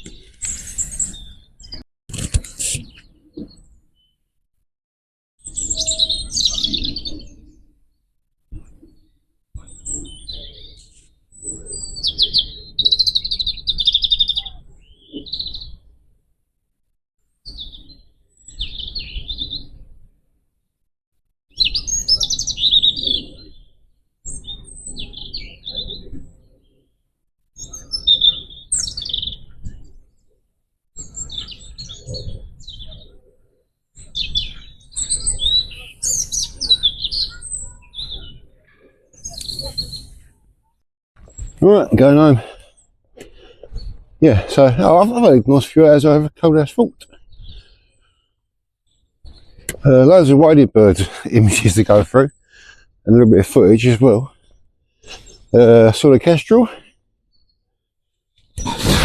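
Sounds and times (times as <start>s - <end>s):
songbird singing: 0.0s - 1.8s, 2.4s - 4.4s, 5.4s - 16.1s, 17.4s - 20.1s, 21.5s - 27.0s, 27.6s - 30.4s, 31.0s - 59.0s.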